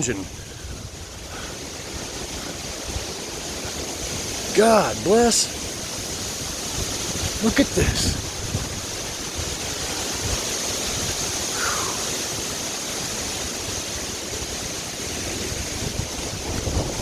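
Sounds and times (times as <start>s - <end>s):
hurricane wind through trees: 0.0s - 17.0s
wind gusts buffeting microphone: 0.0s - 17.0s.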